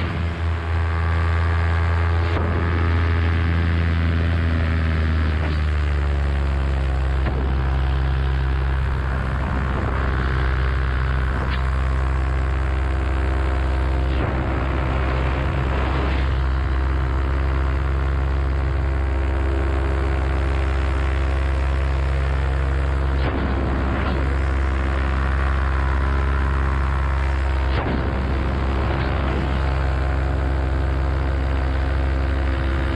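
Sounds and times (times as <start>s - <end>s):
paramotor engine droning: 0.0s - 32.9s.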